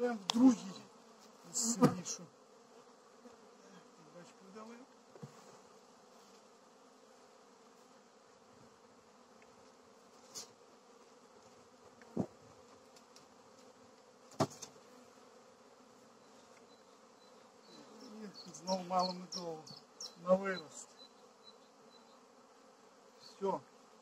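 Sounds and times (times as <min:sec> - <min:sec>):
bees buzzing around hive: 0:00.0 - 0:24.0.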